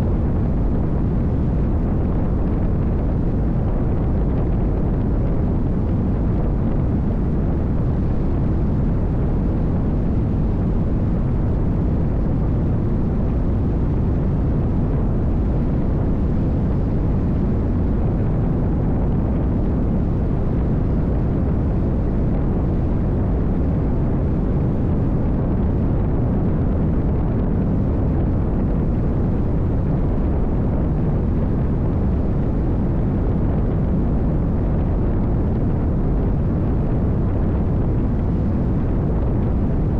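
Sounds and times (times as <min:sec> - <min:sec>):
rush of wind and water: 0:00.0 - 0:39.9.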